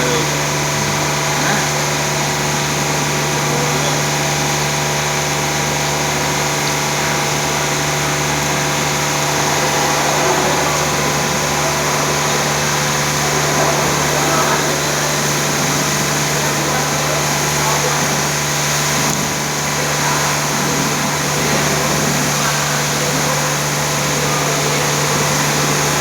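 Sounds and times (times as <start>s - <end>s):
car wash machine hum: 0.0s - 26.0s.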